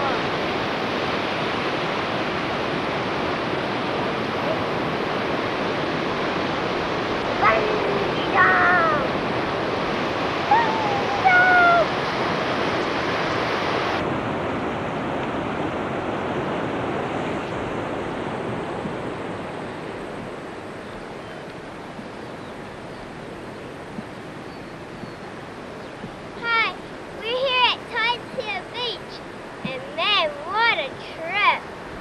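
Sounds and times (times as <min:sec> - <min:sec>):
ocean surf: 0:00.0 - 0:32.0.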